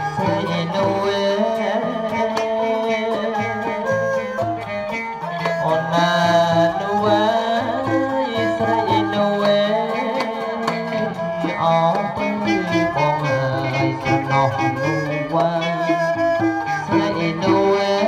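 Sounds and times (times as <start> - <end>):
drum and percussion strokes: 0.0 - 18.0
traditional ensemble music: 0.0 - 18.0.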